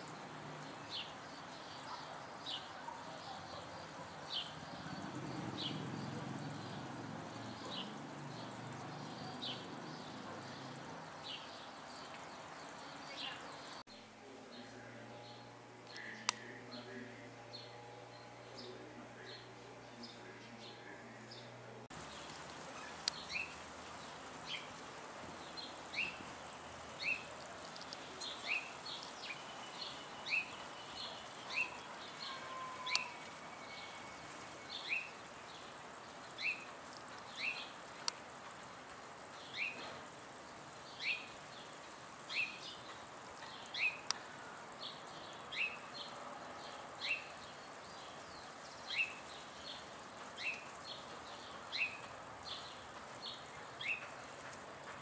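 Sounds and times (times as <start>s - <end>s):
bird chirping: 0.0s - 55.0s
steady outdoor hiss: 0.0s - 55.0s.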